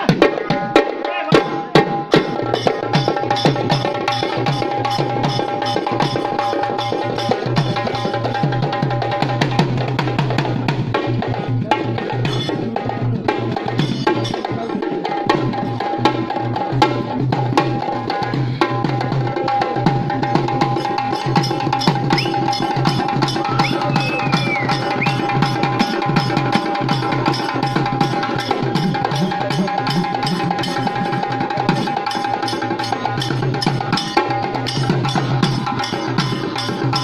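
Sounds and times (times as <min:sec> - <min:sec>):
hand drum music: 0:00.0 - 0:37.0.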